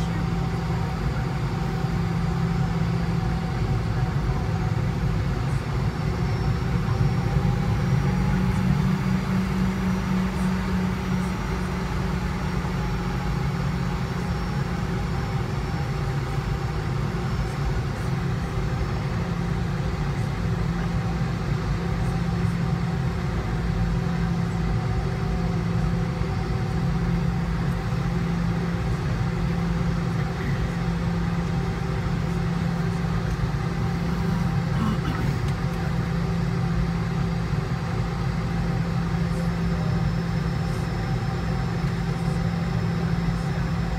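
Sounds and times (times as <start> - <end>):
airplane cabin engine drone: 0.0 - 43.9.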